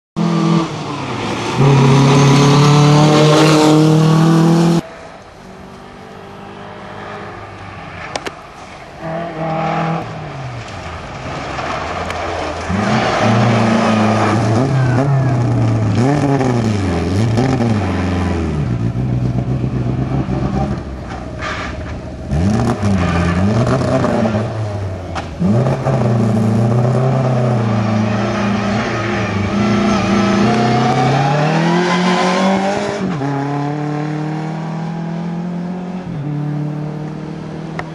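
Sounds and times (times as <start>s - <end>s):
rally car engine revving: 0.2s - 4.8s, 9.0s - 37.9s.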